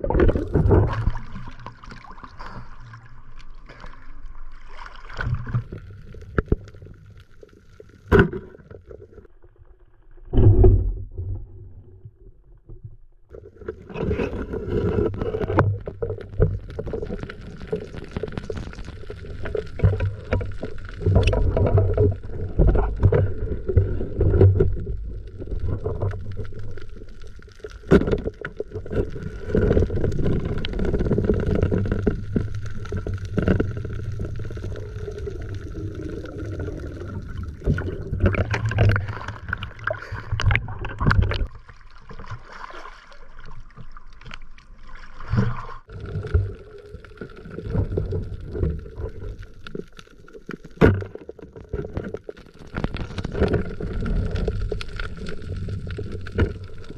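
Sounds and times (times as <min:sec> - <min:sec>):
muffled underwater churning: 0:00.0 - 0:56.9.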